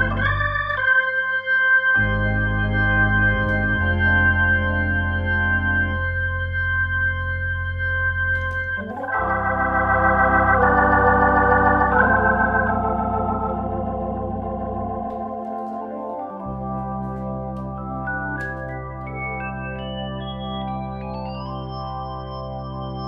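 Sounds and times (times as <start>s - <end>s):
low bass notes: 0.0s - 1.0s, 2.0s - 23.0s
organ playing sustained chords: 0.0s - 23.0s.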